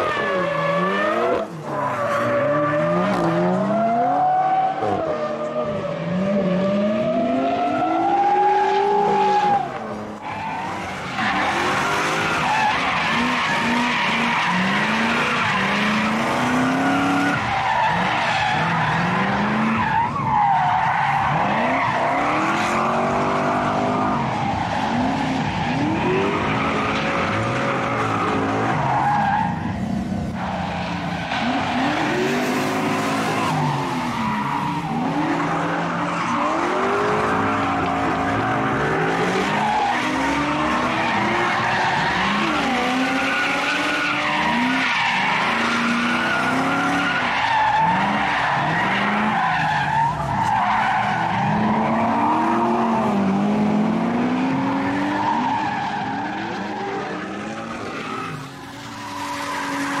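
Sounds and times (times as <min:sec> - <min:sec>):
car engine revving: 0:06.0 - 1:00.0.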